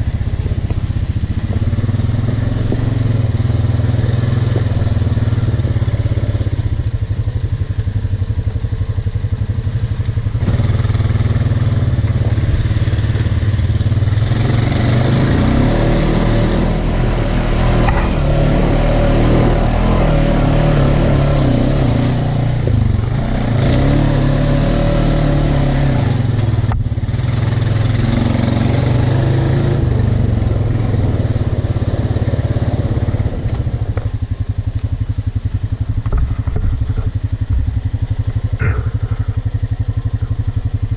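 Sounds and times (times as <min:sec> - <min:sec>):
utility vehicle engine revving: 0:00.0 - 0:40.9.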